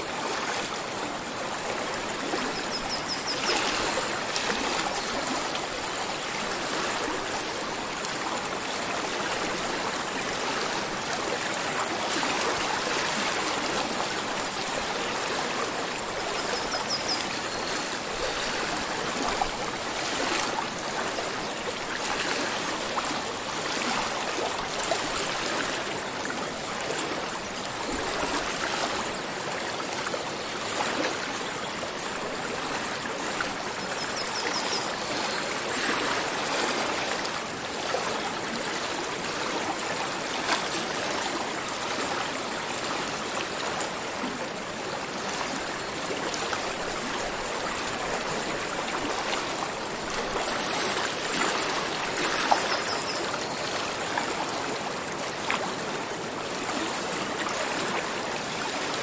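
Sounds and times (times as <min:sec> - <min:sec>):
stream babbling: 0:00.0 - 0:59.0.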